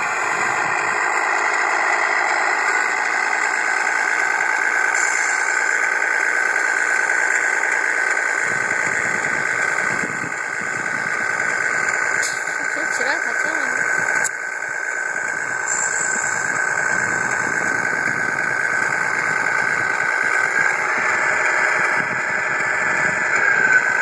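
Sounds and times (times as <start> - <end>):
toy truck engine running: 0.0 - 24.0.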